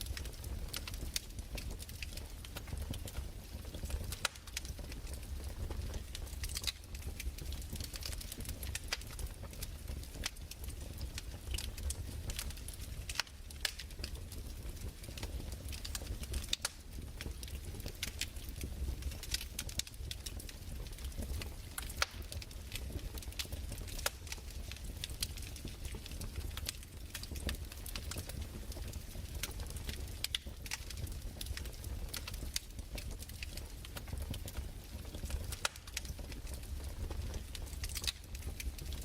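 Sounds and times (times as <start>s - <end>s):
fireplace wood crackling: 0.0s - 39.0s
low fire rumble: 0.0s - 39.0s.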